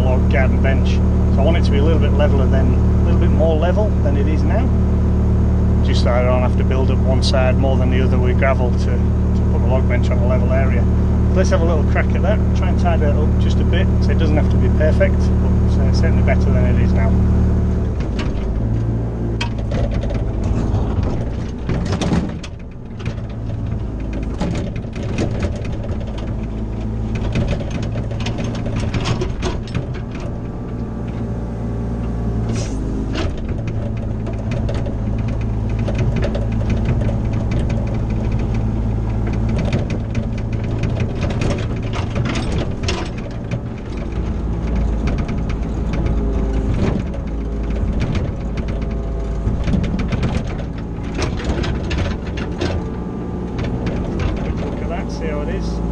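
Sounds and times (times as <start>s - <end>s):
mini excavator running: 0.0s - 55.9s.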